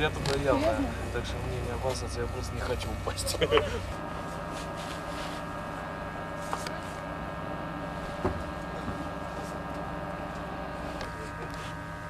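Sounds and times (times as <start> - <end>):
ship machinery hum: 0.0 - 12.0.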